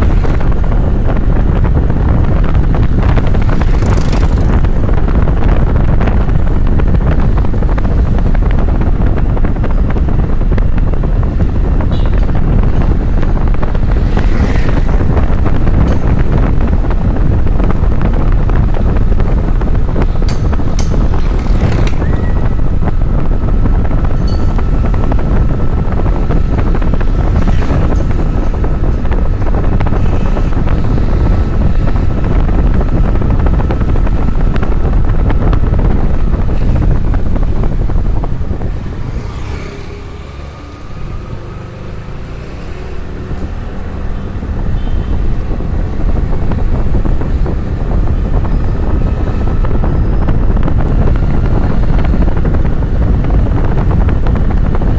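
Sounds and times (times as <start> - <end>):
motorbike engine: 0.0 - 54.9
road noise: 0.0 - 54.9
wind buffeting microphone: 0.0 - 54.9.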